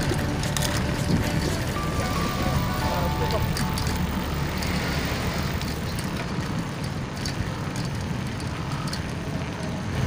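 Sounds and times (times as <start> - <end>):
bicycle road noise: 0.0 - 10.0.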